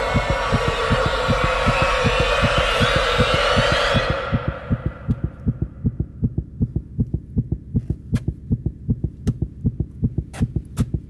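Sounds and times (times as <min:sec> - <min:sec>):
fast heartbeat: 0:00.0 - 0:11.0.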